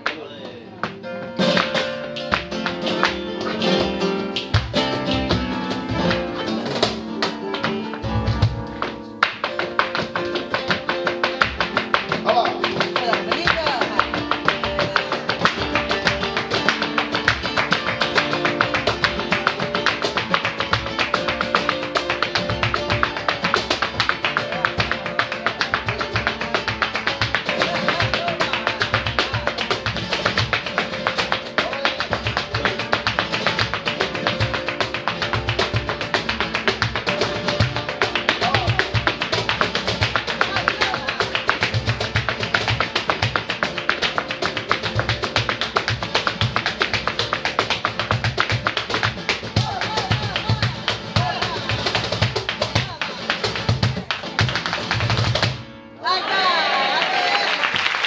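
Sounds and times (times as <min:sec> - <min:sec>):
cajon drumming: 0:00.0 - 0:55.7
hand claps: 0:00.0 - 0:55.7, 0:57.0 - 0:58.0
dancer's feet tapping wooden stage: 0:00.0 - 0:55.8
acoustic guitars playing: 0:00.0 - 0:56.3.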